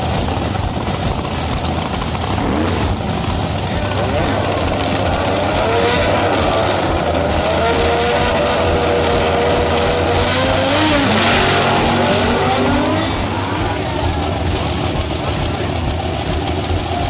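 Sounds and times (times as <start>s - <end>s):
car engine revving hard: 0.0s - 17.0s
tires spinning: 0.0s - 17.0s.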